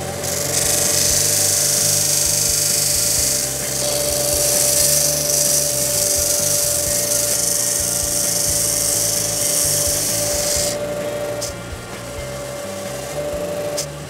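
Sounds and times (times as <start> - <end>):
sanding disc grinding wood: 0.0 - 11.5
disc sander motor hum: 0.0 - 13.9.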